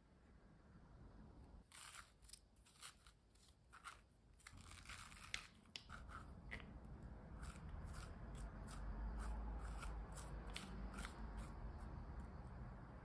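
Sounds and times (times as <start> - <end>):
spoon scraping pumpkin: 1.7 - 12.4.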